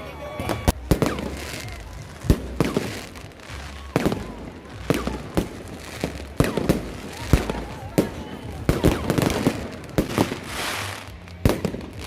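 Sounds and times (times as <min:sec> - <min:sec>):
fireworks exploding: 0:00.4 - 0:12.0.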